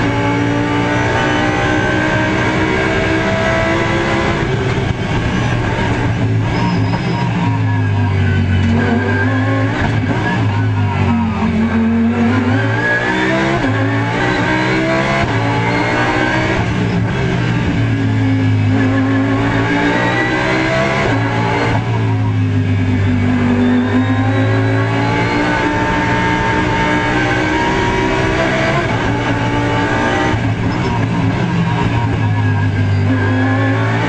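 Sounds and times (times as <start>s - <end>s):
race car engine at speed: 0.0s - 34.0s.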